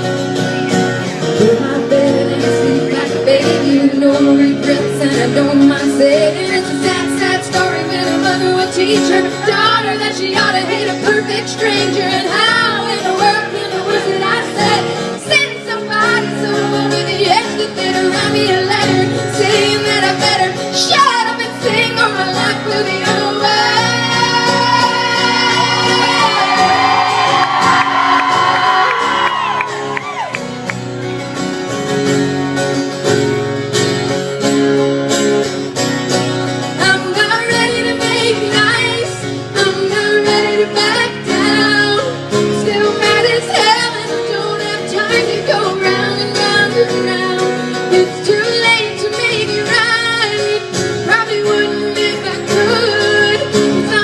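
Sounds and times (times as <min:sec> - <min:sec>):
country band music: 0:00.0 - 0:54.0
woman singing with vibrato: 0:01.2 - 0:29.6, 0:36.8 - 0:54.0.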